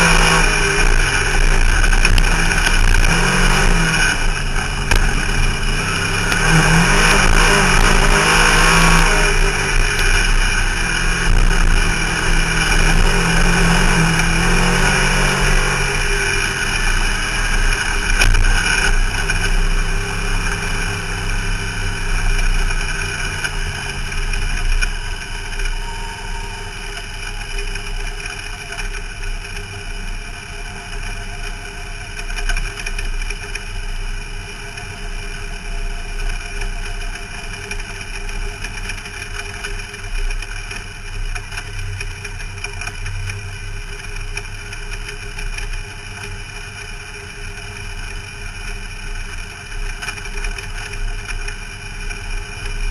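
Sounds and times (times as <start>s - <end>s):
race car engine from inside: 0.0s - 52.9s.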